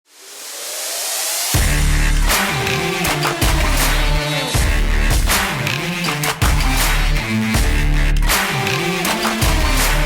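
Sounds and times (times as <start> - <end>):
heavy bass beat: 1.6 - 10.0.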